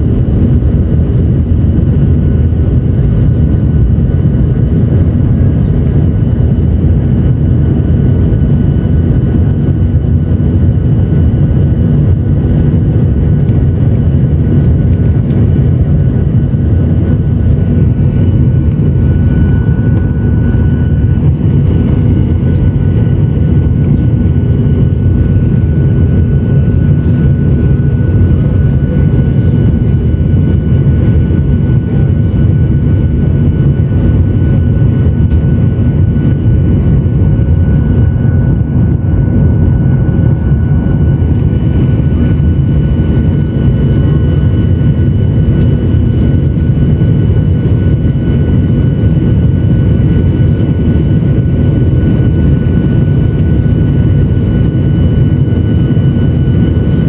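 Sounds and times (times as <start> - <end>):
high engine whine: 0.0 - 57.0
jet engine rumble in cabin: 0.0 - 57.0.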